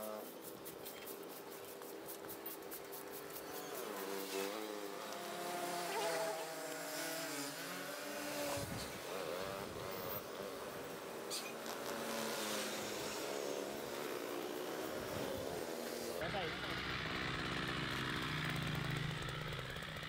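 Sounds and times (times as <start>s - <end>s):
small motor buzzing: 0.0s - 20.0s.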